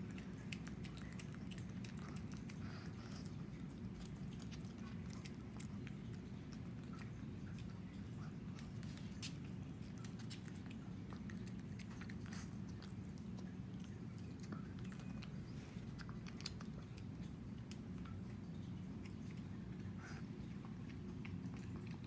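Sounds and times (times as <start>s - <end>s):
dog chewing food: 0.0s - 22.0s
steady low hum: 0.0s - 22.0s.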